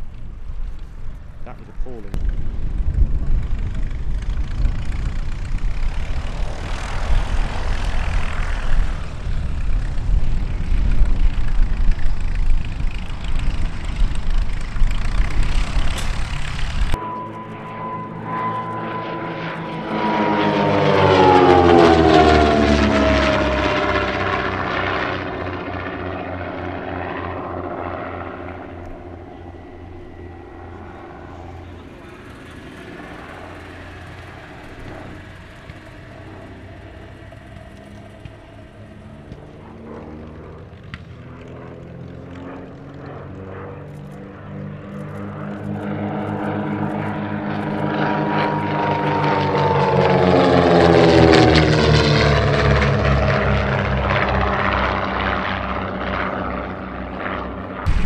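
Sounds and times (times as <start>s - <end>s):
propeller plane engines droning: 0.0s - 58.0s.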